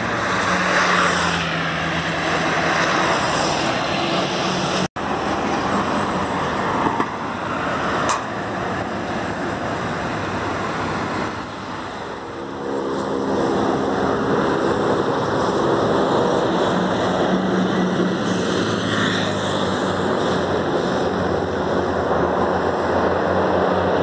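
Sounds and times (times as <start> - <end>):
traffic engine drone and tyre noise: 0.0 - 24.0.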